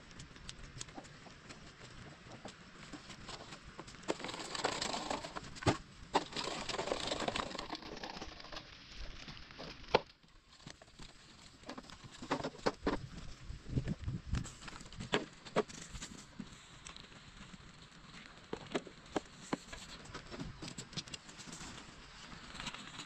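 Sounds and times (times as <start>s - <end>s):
rustling crunch: 0.0s - 23.0s.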